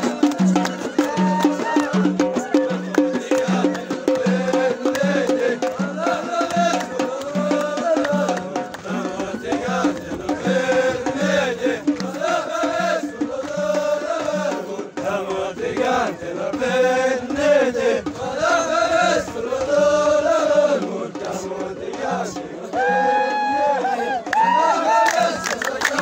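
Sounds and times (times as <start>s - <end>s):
men chanting in unison: 0.0s - 26.0s
steady beat: 0.0s - 26.0s.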